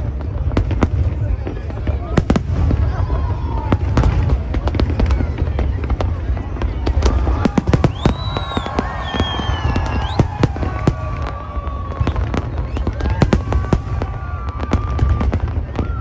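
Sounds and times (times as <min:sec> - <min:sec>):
faint whistling fireworks: 0:00.0 - 0:16.0
fireworks bangs and crackles: 0:00.0 - 0:16.0.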